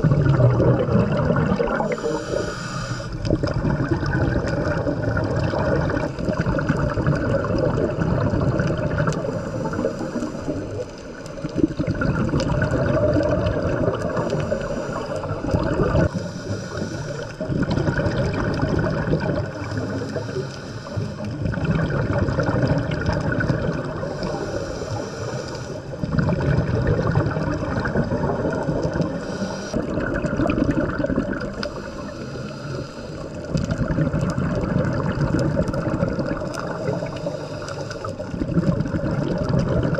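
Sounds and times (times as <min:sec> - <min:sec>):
underwater scuba breathing bubbles: 0:00.0 - 0:39.9.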